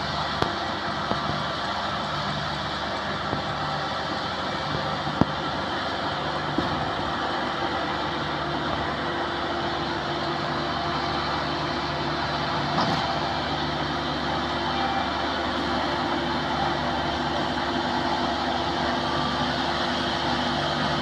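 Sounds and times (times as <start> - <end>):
harvester engine humming: 0.0 - 21.0.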